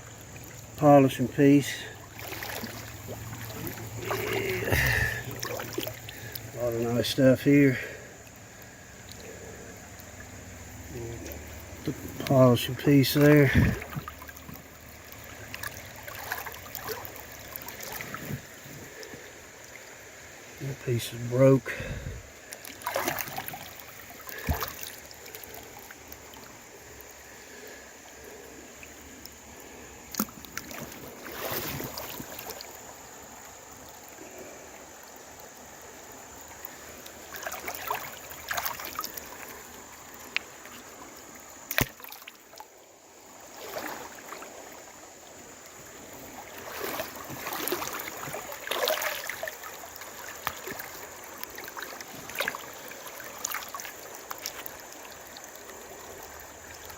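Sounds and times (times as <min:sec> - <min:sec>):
creek water running: 0:00.0 - 0:56.9
splashing from wading: 0:00.3 - 0:08.0, 0:09.0 - 0:19.8, 0:21.7 - 0:27.0, 0:30.0 - 0:33.0, 0:36.7 - 0:42.7, 0:43.4 - 0:45.0, 0:45.8 - 0:56.9.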